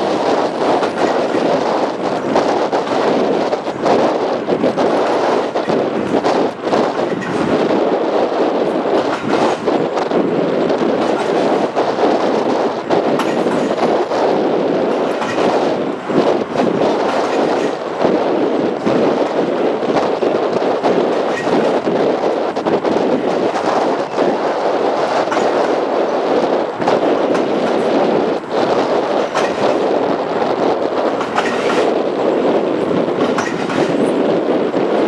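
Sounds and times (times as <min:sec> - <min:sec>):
steel wheels rumbling on track: 0:00.0 - 0:35.0
wheels clicking on track: 0:00.0 - 0:35.0.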